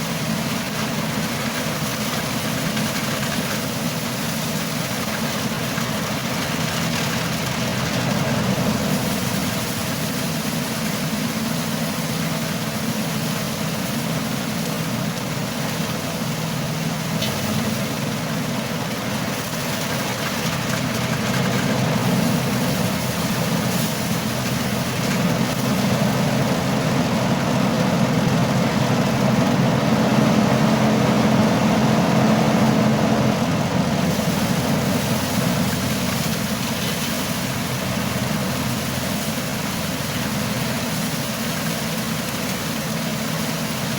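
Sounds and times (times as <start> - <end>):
thresher engine humming: 0.0 - 43.9.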